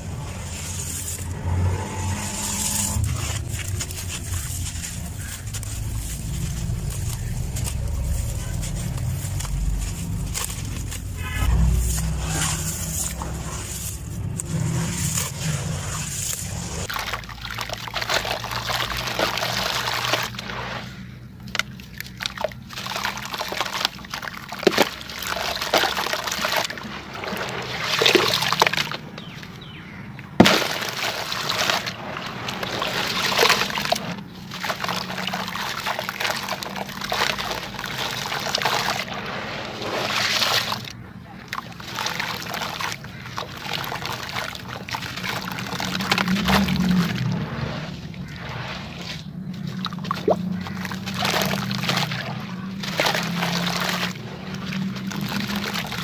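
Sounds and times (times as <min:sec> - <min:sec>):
sand and dirt trickling: 0:00.0 - 0:56.0.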